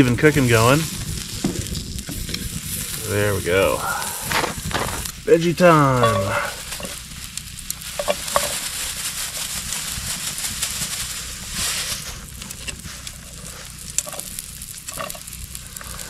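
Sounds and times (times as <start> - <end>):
meat sizzling over charcoal: 0.0 - 16.0.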